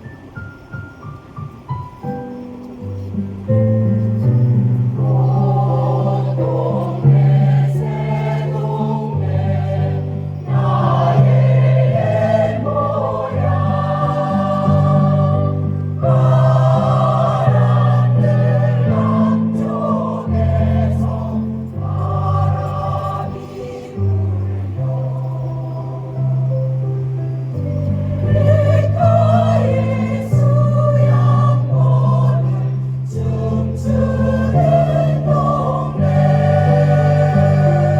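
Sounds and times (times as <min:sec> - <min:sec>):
choir singing slow piece: 0:00.0 - 0:37.9.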